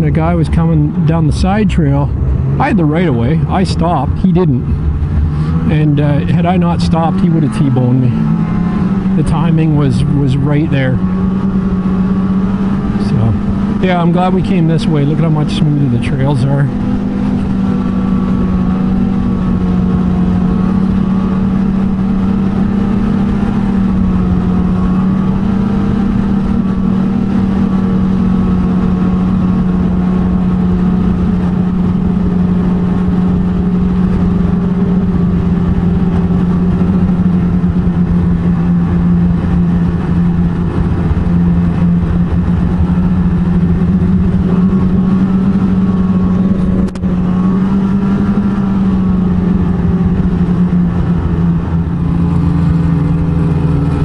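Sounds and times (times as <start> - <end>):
snowmobile engine cruising: 0.0 - 54.0.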